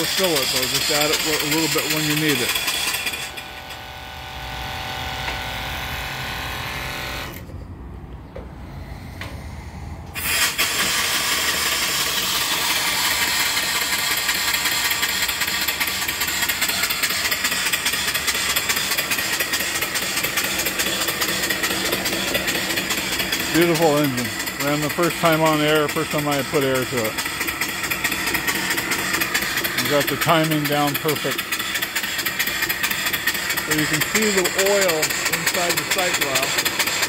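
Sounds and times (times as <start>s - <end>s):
steam engine hissing and clattering: 0.0s - 3.5s, 10.2s - 37.0s.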